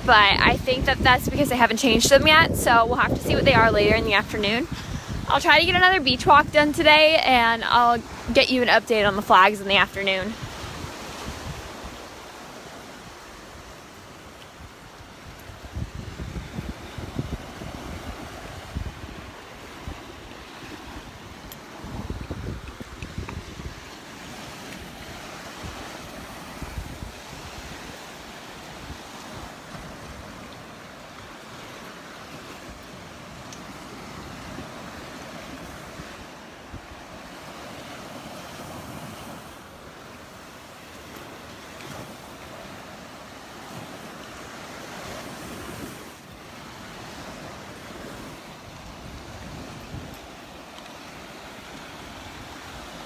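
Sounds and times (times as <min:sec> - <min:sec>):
wind buffeting microphone: 0:00.0 - 0:43.0, 0:43.6 - 0:50.6
surf washing onto beach: 0:00.0 - 0:53.0.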